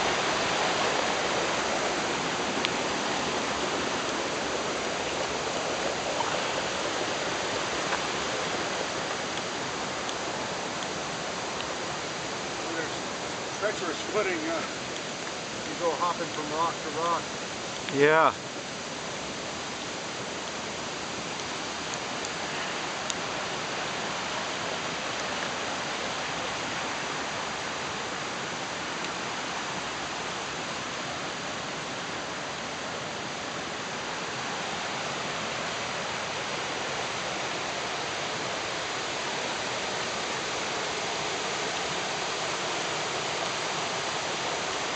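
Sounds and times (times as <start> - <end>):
creek rushing over rocks: 0.0 - 44.9.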